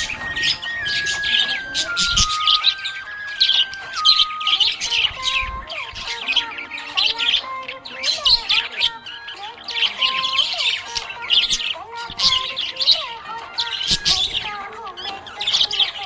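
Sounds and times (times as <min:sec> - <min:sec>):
background music: 0:00.0 - 0:16.0
budgerigars chirping and squawking: 0:00.0 - 0:16.0.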